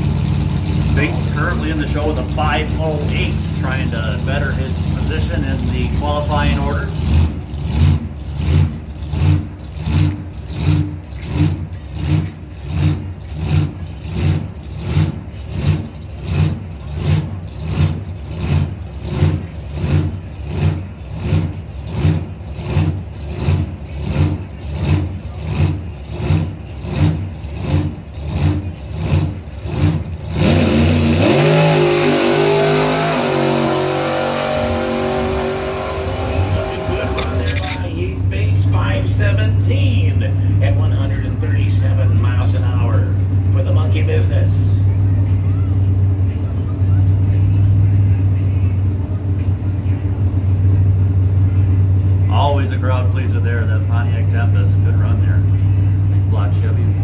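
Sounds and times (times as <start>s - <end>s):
drag-race engine pulsing: 0.0s - 57.0s
engine full-throttle run: 0.0s - 57.0s.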